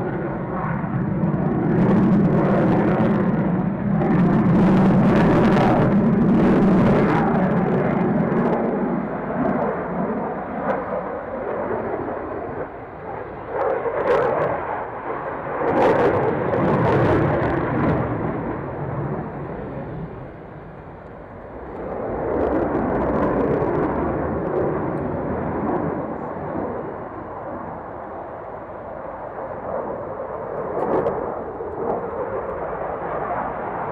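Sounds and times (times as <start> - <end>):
aircraft engine: 0.0 - 33.9.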